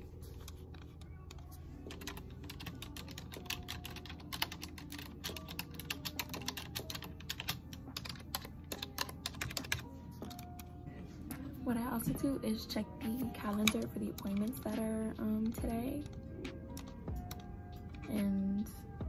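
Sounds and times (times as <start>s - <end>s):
typing on computer keyboard: 0.4s - 10.6s, 13.4s - 18.4s.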